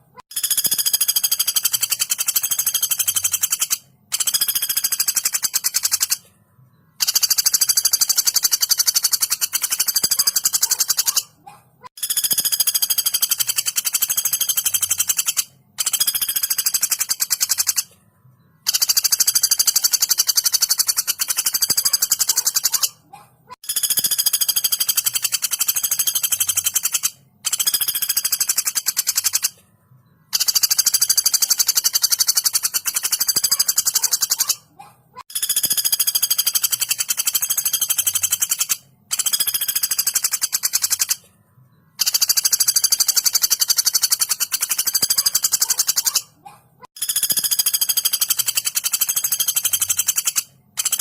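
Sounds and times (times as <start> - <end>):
woodpecker rattling calls: 0.1 - 6.3, 6.9 - 18.0, 18.6 - 29.6, 30.2 - 41.3, 42.0 - 51.0.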